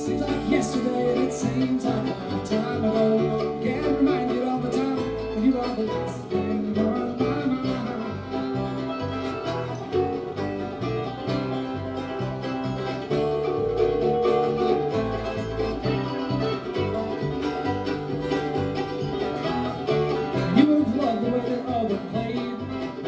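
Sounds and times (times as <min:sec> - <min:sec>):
banjo picking: 0:00.0 - 0:23.0
bluegrass band playing: 0:00.0 - 0:23.0
guitar picking: 0:00.0 - 0:23.0.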